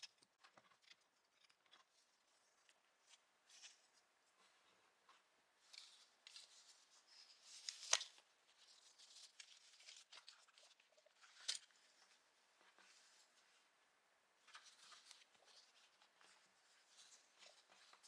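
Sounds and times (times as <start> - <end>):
soft rustling: 0.1 - 18.0.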